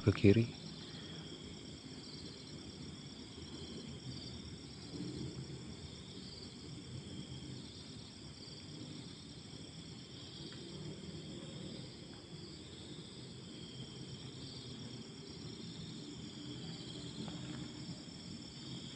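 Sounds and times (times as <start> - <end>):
crickets chirping: 0.0 - 18.9.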